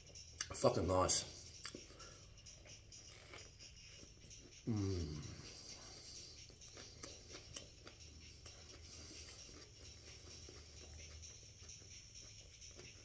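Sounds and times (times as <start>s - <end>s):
faint crunchy chewing: 1.5s - 13.0s.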